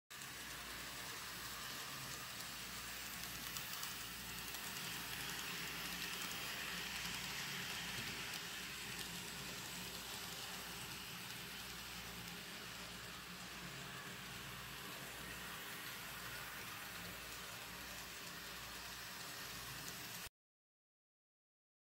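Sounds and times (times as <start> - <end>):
model train wheels and motor hiss: 0.1 - 20.3.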